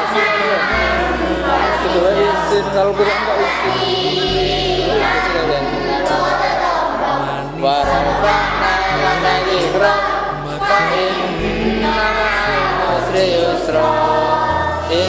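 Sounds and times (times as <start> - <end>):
children singing in unison: 0.0 - 15.0
musical accompaniment with bass line: 0.0 - 15.0.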